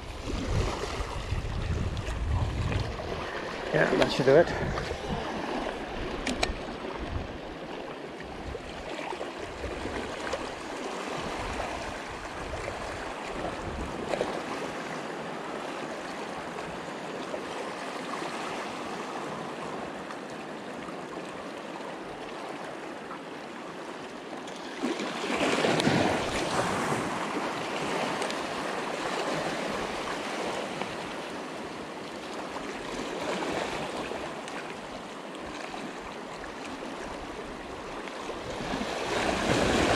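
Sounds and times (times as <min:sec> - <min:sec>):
water lapping against rocks: 0:00.0 - 0:19.8, 0:24.4 - 0:39.9.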